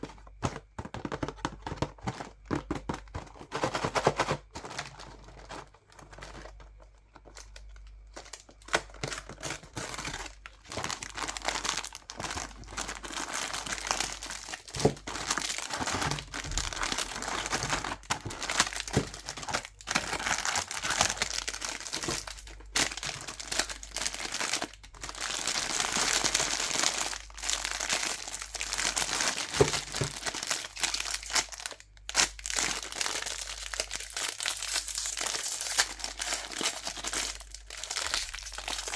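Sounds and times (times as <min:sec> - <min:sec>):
plastic wrappers crinkling and tearing: 0:00.0 - 0:38.9.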